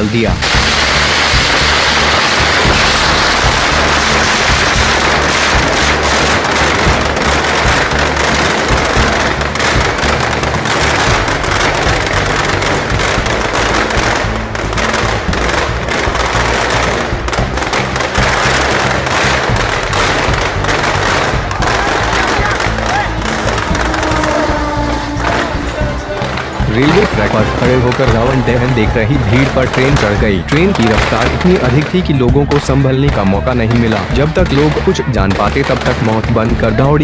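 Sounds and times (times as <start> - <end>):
background music with bass: 0.0 - 37.0
firecrackers crackling: 0.0 - 37.0.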